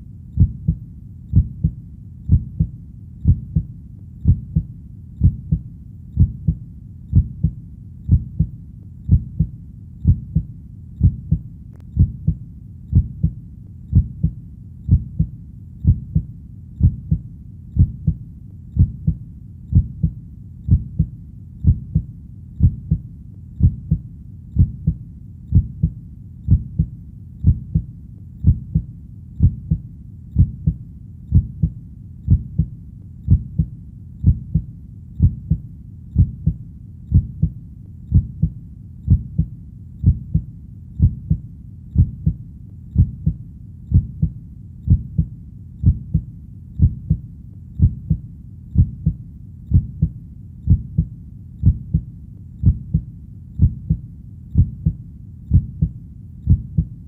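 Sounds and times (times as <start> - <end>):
faint low rumble: 0.0 - 57.0
heartbeat double thump: 0.4 - 5.6, 6.2 - 8.5, 9.1 - 11.4, 12.0 - 17.2, 18.8 - 23.0, 23.6 - 24.0, 24.6 - 29.8, 30.4 - 32.7, 33.3 - 35.6, 36.2 - 41.4, 42.0 - 42.4, 43.0 - 47.2, 47.8 - 48.2, 48.8 - 54.0, 54.6 - 57.0.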